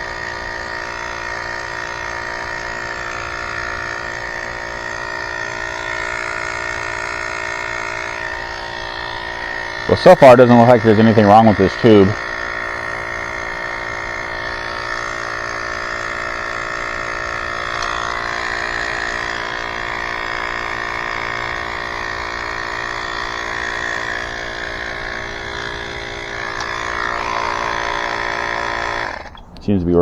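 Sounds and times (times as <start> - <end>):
electric air pump buzzing: 0.0 - 29.6.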